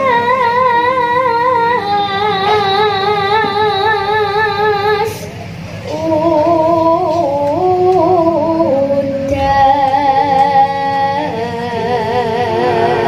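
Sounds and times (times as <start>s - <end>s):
person singing into a microphone: 0.0s - 5.3s, 5.9s - 13.0s
instrumental accompaniment: 0.0s - 13.0s.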